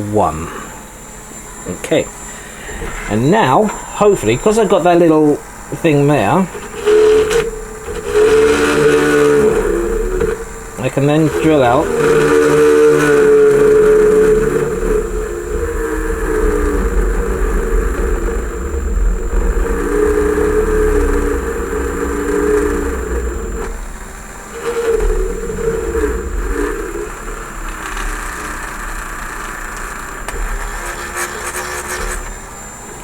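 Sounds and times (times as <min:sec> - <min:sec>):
rotary tool motor whine: 0:00.0 - 0:33.0.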